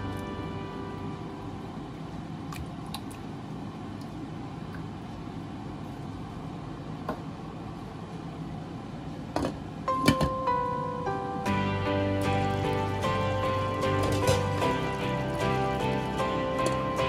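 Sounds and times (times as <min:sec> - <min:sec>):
low rushing background noise: 0:00.0 - 0:17.0.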